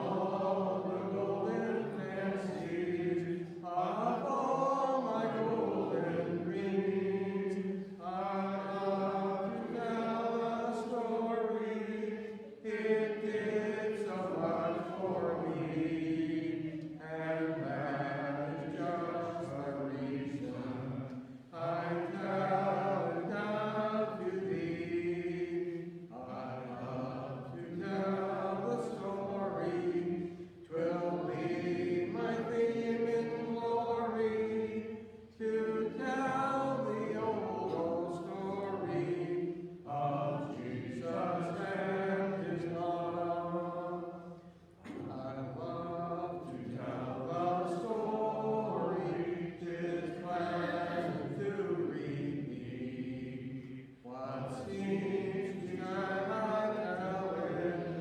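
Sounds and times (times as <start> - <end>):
voices singing a slow hymn: 0.0 - 58.0.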